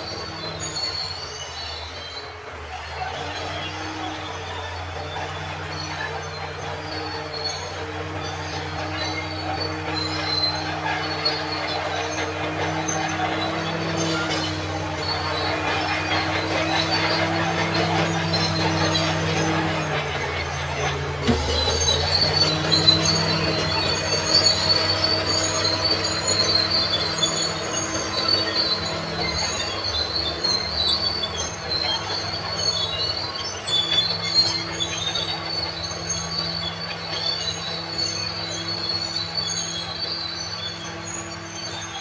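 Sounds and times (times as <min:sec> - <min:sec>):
bulldozer diesel engine running: 0:00.0 - 0:42.0
steel tracks squealing and clattering: 0:00.0 - 0:42.0.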